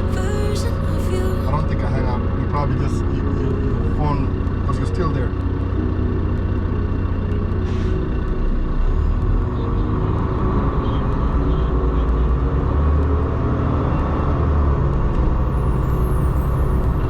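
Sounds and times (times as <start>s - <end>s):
road noise: 0.0s - 17.0s
truck diesel engine running: 0.0s - 17.0s.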